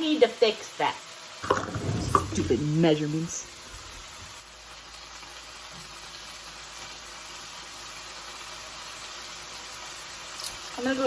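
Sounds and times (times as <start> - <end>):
chicken frying in a pan: 0.0 - 11.0.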